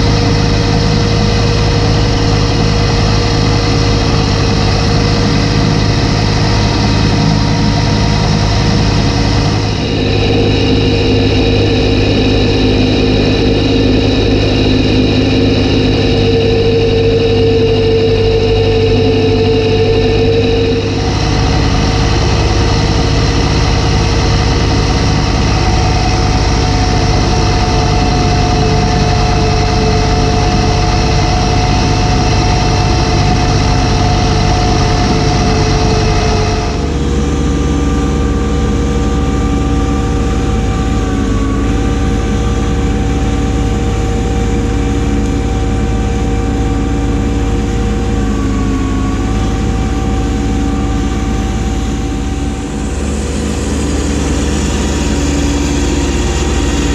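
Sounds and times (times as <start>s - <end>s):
diesel tractor engine running: 0.0s - 56.9s
steady tones: 0.0s - 56.9s.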